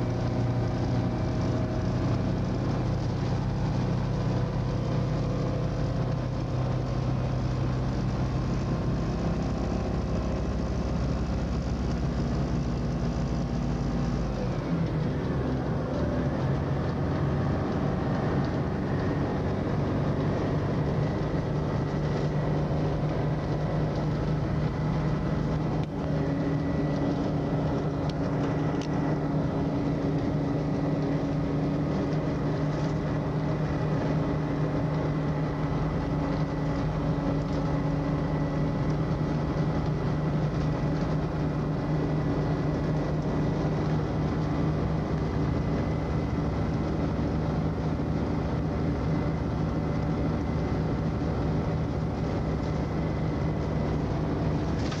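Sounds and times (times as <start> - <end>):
coach engine hum and road noise: 0.0 - 55.0.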